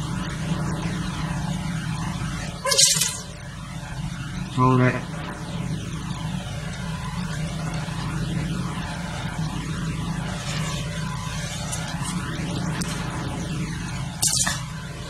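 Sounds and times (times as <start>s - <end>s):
low whooshing mechanical drone: 0.0s - 15.0s.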